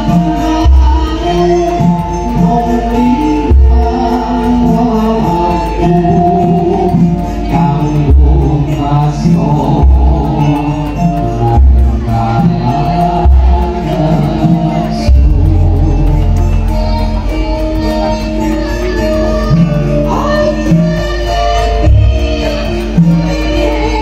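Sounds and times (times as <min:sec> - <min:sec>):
chanted singing over music: 0:00.0 - 0:24.0.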